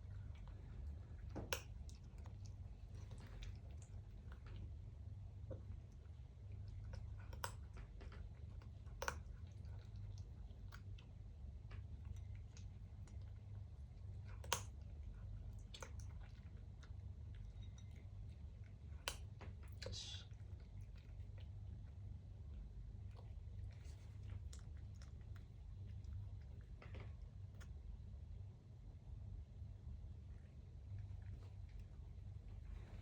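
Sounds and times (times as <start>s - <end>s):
cat chewing food: 0.0s - 33.0s
steady low hum: 0.0s - 33.0s.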